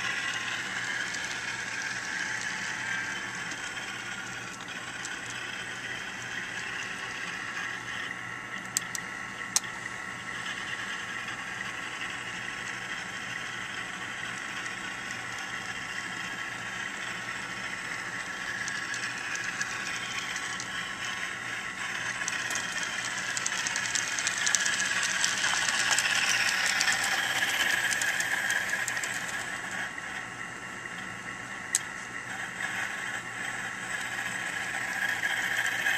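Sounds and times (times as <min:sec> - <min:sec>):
model train whirring and rattling: 0:00.0 - 0:35.9.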